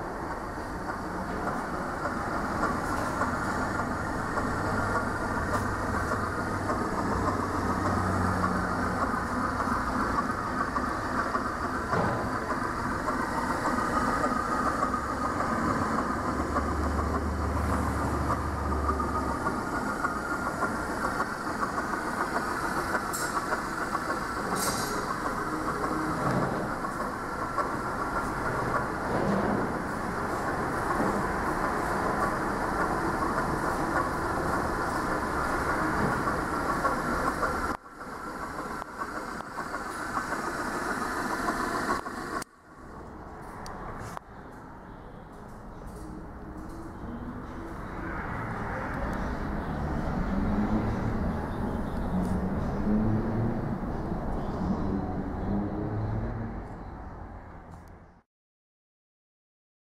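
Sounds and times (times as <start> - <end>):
machinery rumble and clatter: 0.0 - 58.0.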